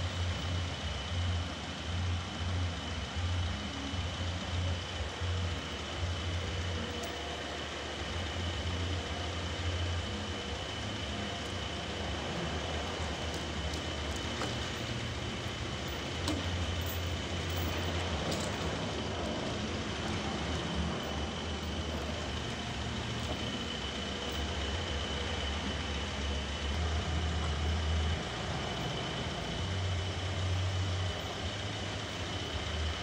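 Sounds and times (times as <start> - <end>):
high whine: 0.0 - 33.0
sawmill engine drone: 0.0 - 33.0.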